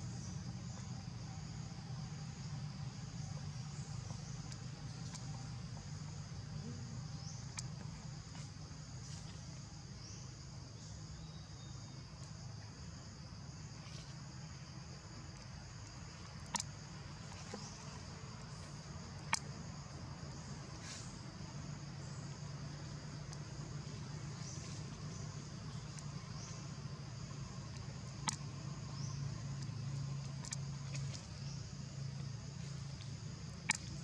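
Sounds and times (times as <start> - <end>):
insects chirring: 0.0 - 34.0
low background hum: 0.0 - 34.0.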